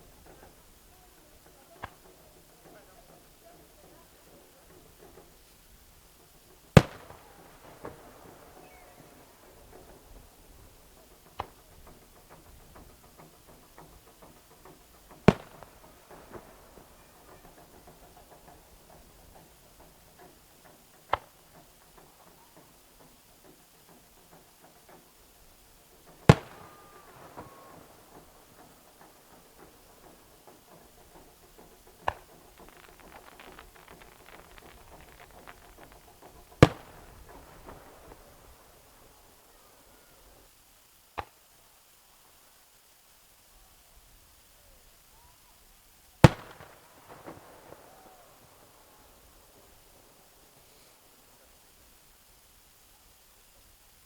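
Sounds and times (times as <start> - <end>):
fireworks bursting: 0.0 - 41.3, 46.0 - 54.0.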